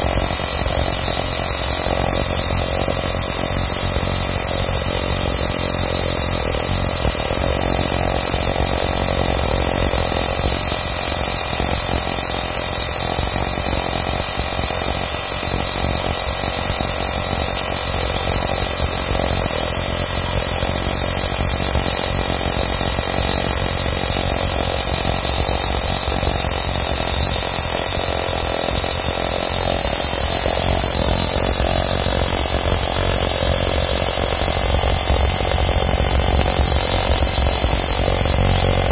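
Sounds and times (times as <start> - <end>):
crackle of electric streamers: 0.0 - 38.9
tesla coil spark gap buzz: 0.0 - 38.9.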